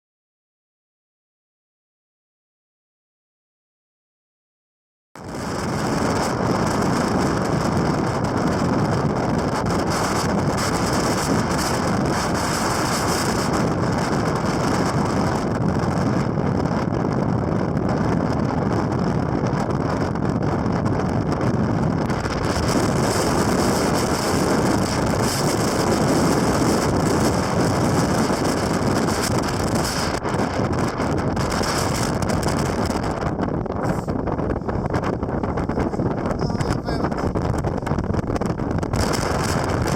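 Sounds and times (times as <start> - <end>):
strong wind buffeting microphone: 5.2 - 39.9.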